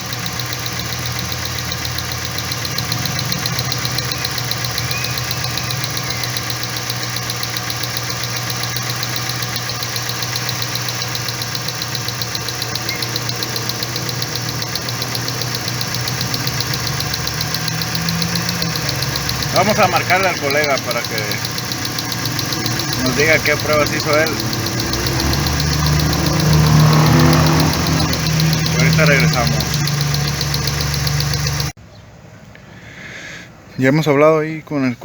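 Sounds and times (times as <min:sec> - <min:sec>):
fast even ticking: 0:00.0 - 0:31.8
pickup engine idling: 0:00.0 - 0:31.8.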